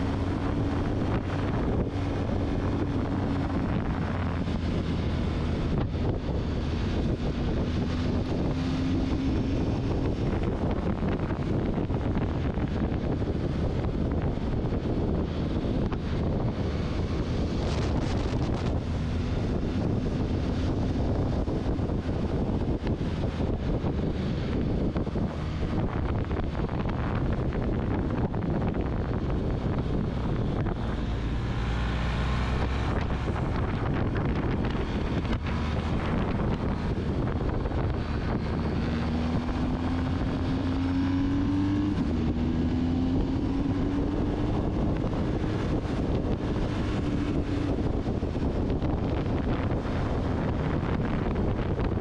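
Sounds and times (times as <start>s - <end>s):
motorcycle engine: 0.0s - 52.0s
wind rush: 0.0s - 52.0s.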